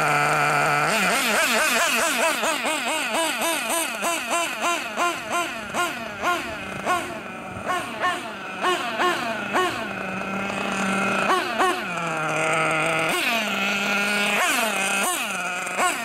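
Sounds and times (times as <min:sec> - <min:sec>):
model nitro engine revving: 0:00.0 - 0:16.0.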